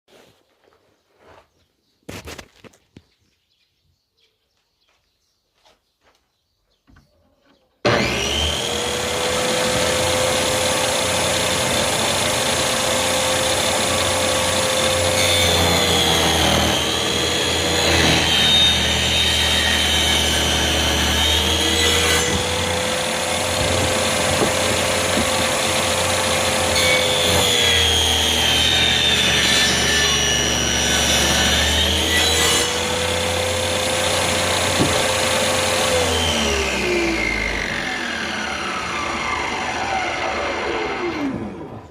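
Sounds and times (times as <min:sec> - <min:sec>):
table saw cutting wood: 0:07.8 - 0:41.9.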